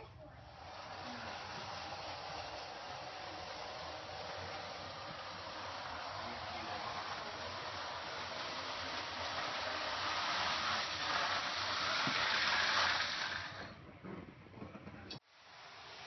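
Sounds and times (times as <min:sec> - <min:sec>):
toy train whirring: 0:00.0 - 0:13.8, 0:15.2 - 0:16.0.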